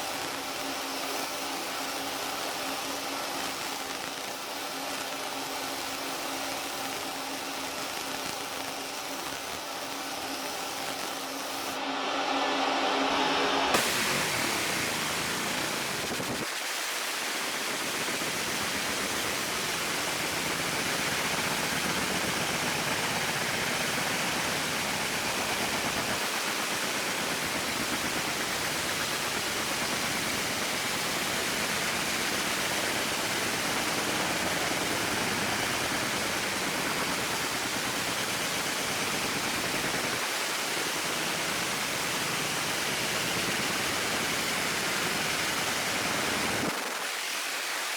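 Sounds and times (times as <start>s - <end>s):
fan air rushing hiss: 0.0s - 47.9s.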